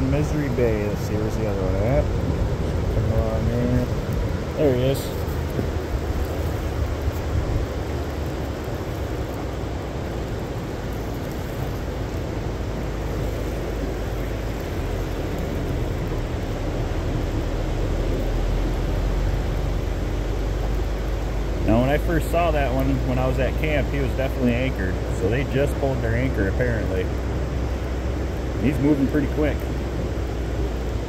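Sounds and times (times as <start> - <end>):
steady outdoor rumble with hiss: 0.0 - 31.0.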